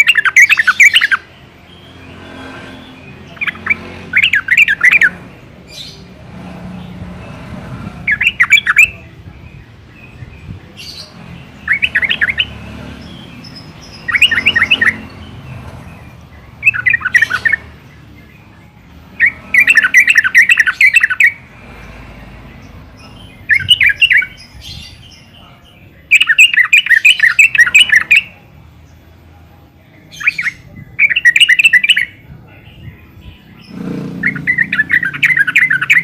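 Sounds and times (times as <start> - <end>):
bird chattering song: 0.0 - 29.1, 29.9 - 36.0
soft bird calls: 0.0 - 29.1, 30.0 - 36.0.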